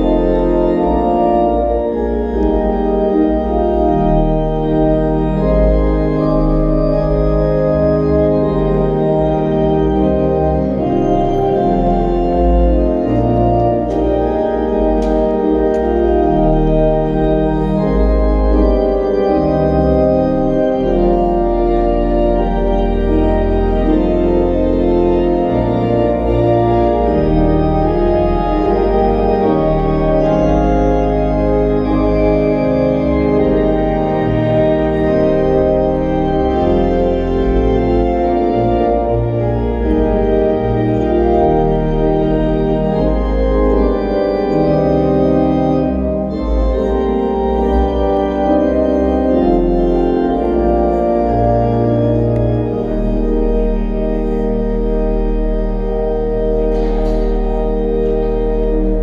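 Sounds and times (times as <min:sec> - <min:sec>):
pipe organ chords: 0:00.0 - 0:59.0.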